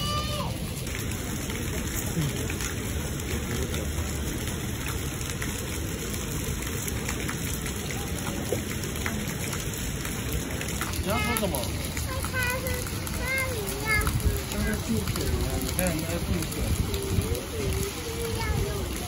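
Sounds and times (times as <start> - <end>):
fountain water splashing into pond: 0.0 - 19.0.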